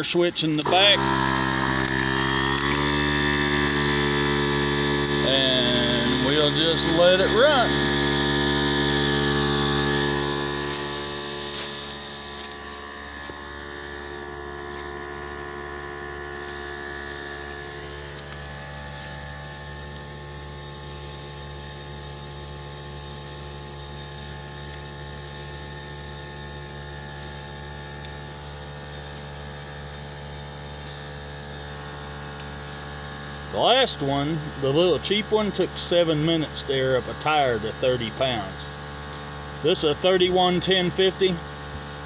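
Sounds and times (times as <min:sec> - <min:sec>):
portable air compressor running: 0:00.0 - 0:42.0.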